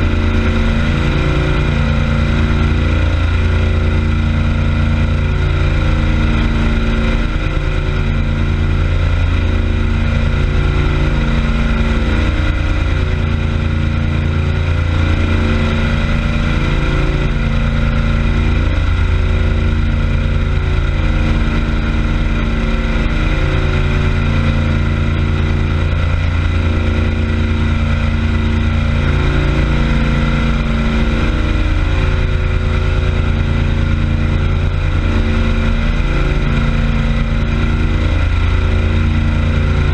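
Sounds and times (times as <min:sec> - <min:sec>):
churning prop wash: 0:00.0 - 0:39.9
motorboat engine running: 0:00.0 - 0:39.9.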